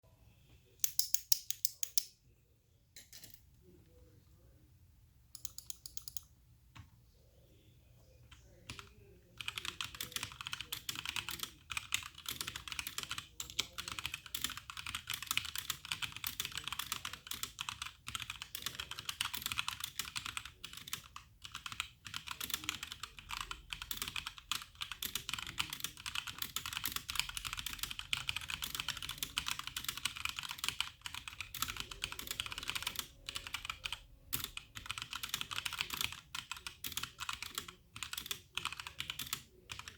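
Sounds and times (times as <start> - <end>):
mechanical keyboard typing: 5.4 - 6.3, 8.5 - 39.9.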